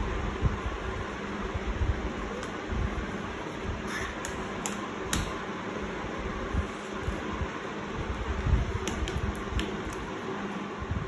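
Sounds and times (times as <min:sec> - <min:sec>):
fan-like whirring: 0:00.0 - 0:11.0.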